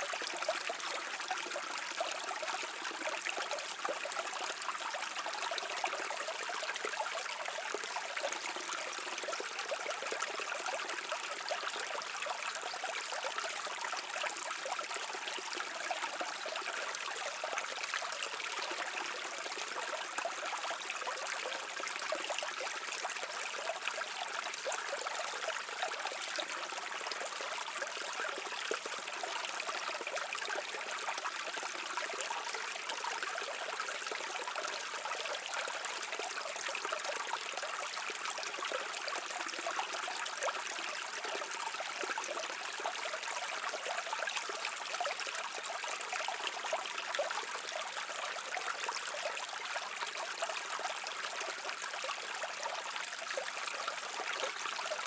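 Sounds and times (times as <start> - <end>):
brook water babbling: 0.0 - 55.0.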